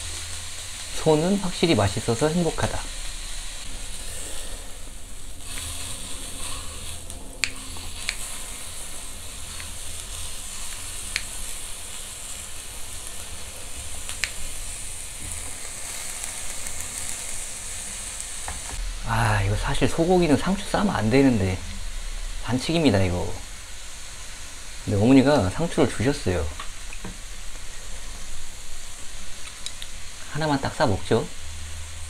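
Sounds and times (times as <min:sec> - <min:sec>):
steak sizzling on a grill: 0:00.0 - 0:32.0.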